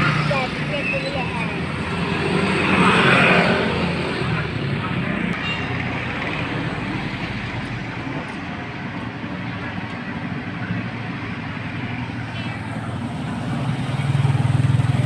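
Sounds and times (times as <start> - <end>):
motorcycles and cars driving past: 0.0 - 15.0.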